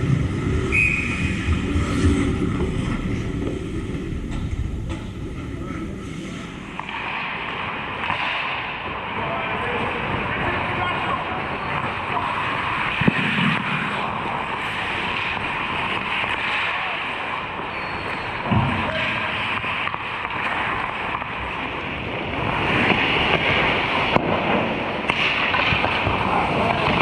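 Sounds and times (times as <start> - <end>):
hockey rink noise: 0.0 - 27.0.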